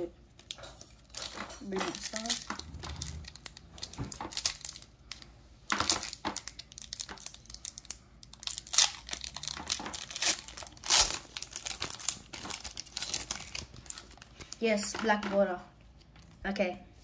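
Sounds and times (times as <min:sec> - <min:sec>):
foil wrapper tearing and crinkling: 0:00.4 - 0:14.8.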